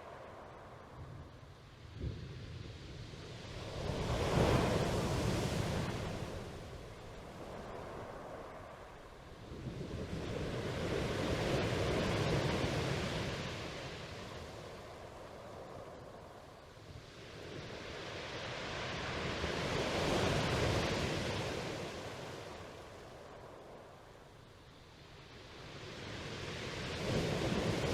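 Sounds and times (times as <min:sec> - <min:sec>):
sea waves washing in: 0:00.0 - 0:27.9.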